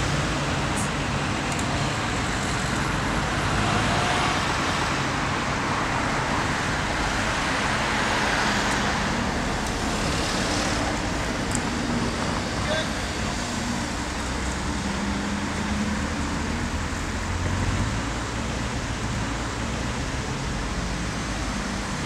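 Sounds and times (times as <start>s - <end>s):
cars passing close by: 0.0s - 22.0s.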